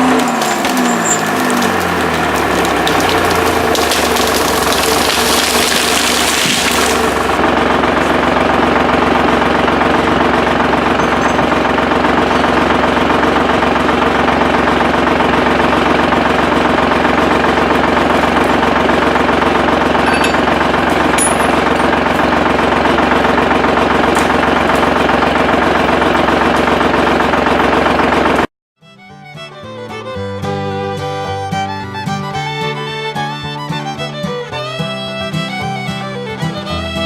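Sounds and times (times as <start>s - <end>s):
diesel engine running steadily: 0.0s - 28.5s, 29.2s - 37.0s.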